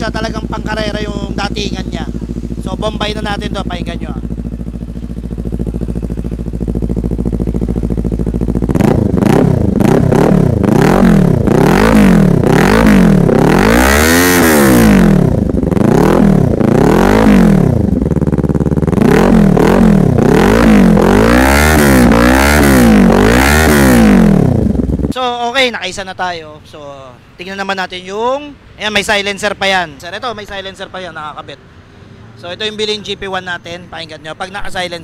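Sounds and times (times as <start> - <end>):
motorcycle engine idling and revving: 0.0 - 25.4, 27.5 - 35.0.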